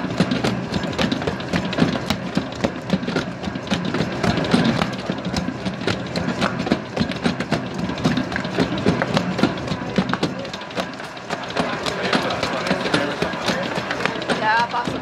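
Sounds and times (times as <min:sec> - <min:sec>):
dough mixer motor humming: 0:00.0 - 0:15.0
dough slapping against bowl: 0:00.0 - 0:15.0.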